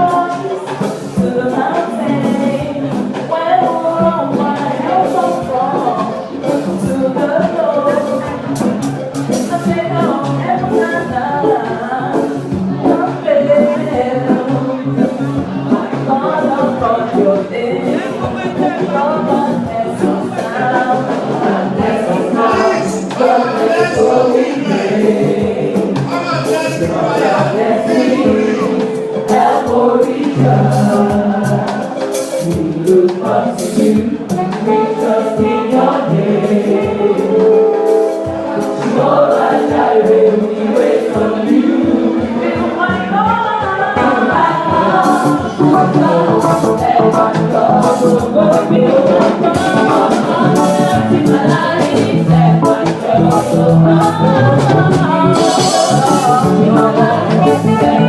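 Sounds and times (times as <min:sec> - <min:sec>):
church choir singing: 0:00.0 - 0:58.0
instrumental backing: 0:00.0 - 0:58.0
percussive beat: 0:00.0 - 0:58.0.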